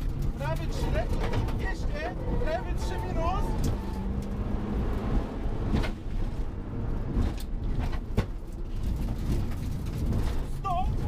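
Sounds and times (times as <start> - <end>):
gravel road noise: 0.0 - 11.0
rally car engine: 0.0 - 11.0.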